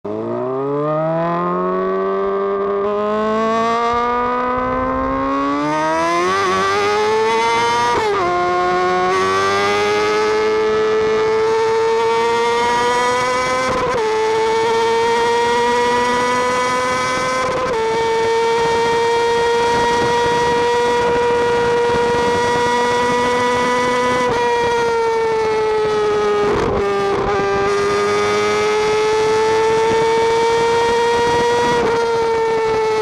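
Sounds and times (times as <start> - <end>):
engine revving and accelerating: 0.1 - 33.0.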